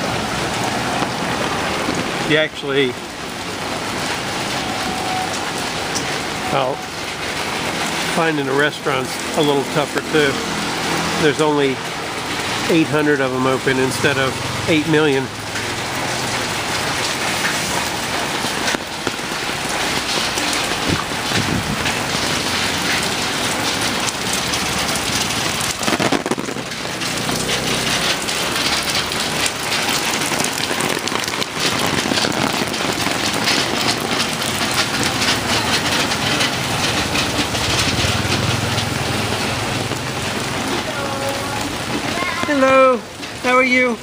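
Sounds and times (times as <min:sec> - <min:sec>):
heavy rain on an umbrella: 0:00.0 - 0:44.0.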